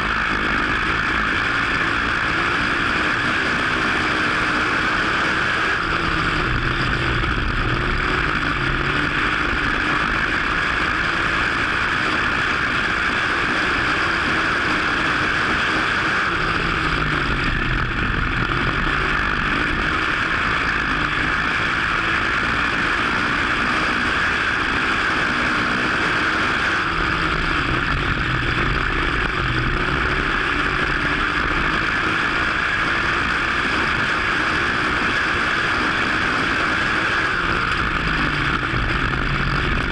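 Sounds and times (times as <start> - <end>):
race car engine: 0.0 - 39.9
steady loud wind: 0.0 - 39.9.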